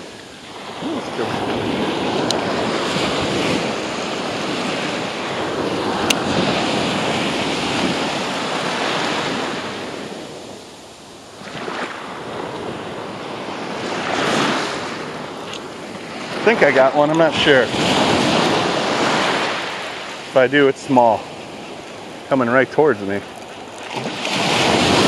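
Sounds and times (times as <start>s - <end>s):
surf breaking on beach: 0.0s - 10.8s, 11.4s - 25.0s
wind buffeting microphone: 0.0s - 25.0s.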